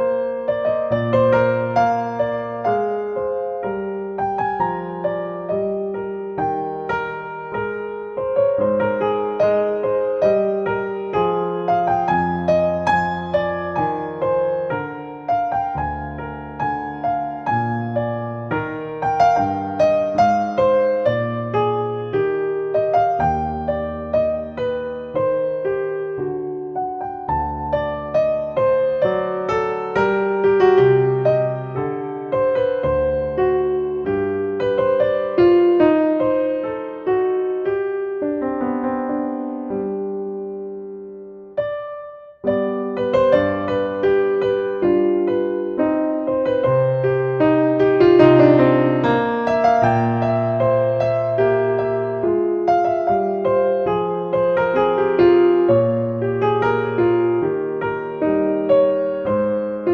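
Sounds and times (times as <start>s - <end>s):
slow solo piano: 0.0s - 59.9s.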